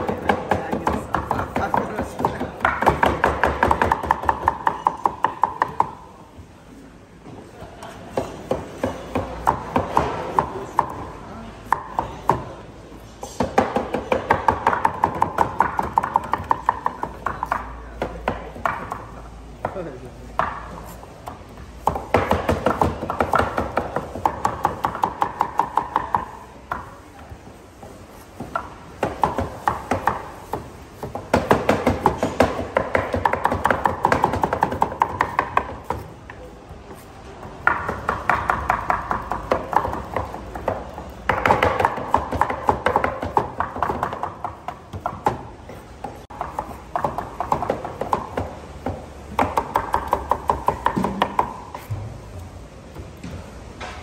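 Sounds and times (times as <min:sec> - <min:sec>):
cleavers chopping on wooden boards: 0:00.0 - 0:06.1, 0:08.0 - 0:12.6, 0:13.3 - 0:27.0, 0:28.3 - 0:52.0.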